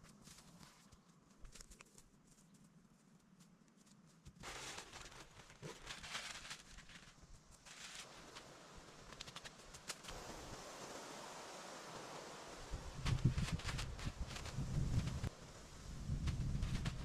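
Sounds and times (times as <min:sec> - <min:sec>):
leaves and twigs rustling: 0:00.0 - 0:17.0.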